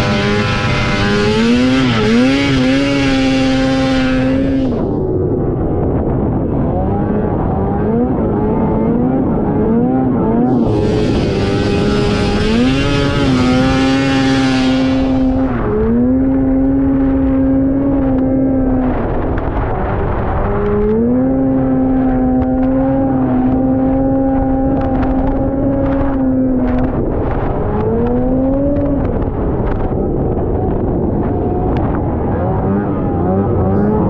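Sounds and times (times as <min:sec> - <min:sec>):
snowmobile engine revving high: 0:00.0 - 0:05.0, 0:06.6 - 0:29.2, 0:31.1 - 0:34.0.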